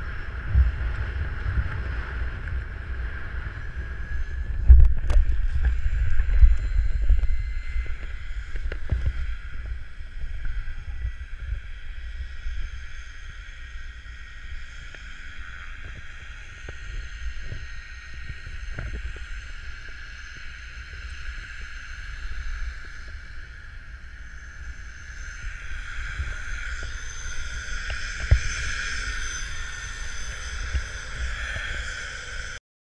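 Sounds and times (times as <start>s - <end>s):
engine drone: 0.0s - 32.6s
wind buffeting microphone: 0.0s - 32.6s.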